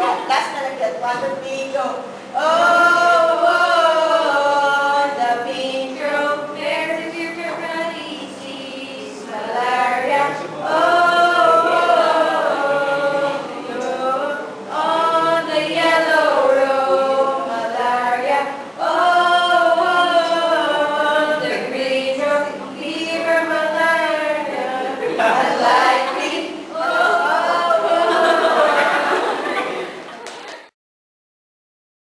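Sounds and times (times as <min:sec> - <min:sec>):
group singing unaccompanied: 0:02.3 - 0:30.1.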